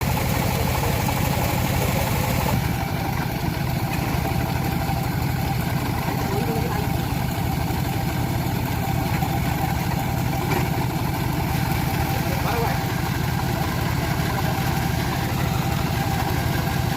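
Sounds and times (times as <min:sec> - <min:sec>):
sawmill engine drone: 0:00.0 - 0:16.9.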